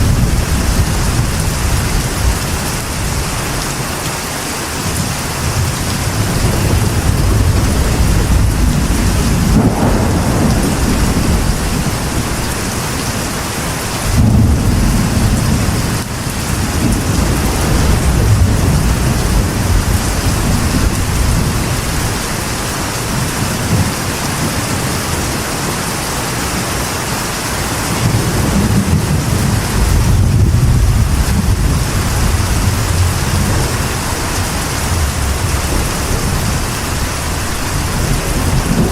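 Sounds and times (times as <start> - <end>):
thunder rumbling: 0.0 - 4.0, 4.8 - 26.8, 27.7 - 38.9
rain drumming on a metal roof: 0.0 - 38.9.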